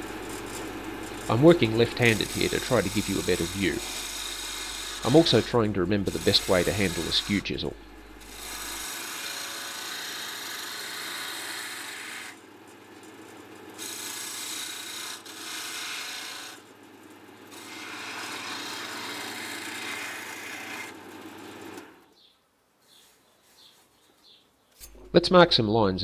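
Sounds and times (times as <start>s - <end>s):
chisel scraping spinning wood: 0.0s - 16.9s, 17.5s - 22.0s
lathe motor hum: 0.0s - 22.0s.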